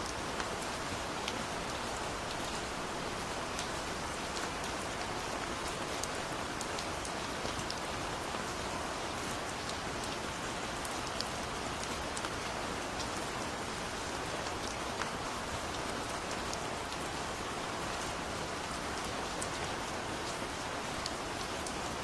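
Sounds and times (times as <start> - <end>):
raindrops pattering on a surface: 0.0 - 22.0.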